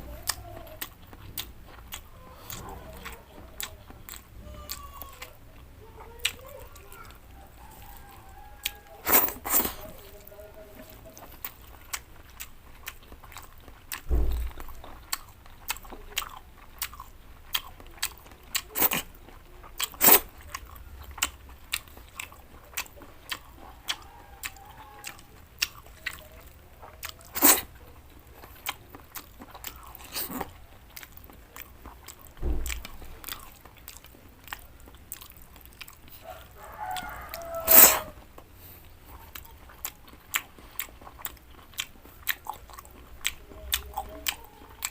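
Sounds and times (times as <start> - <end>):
chewing and crunching vegetables: 0.0 - 44.9.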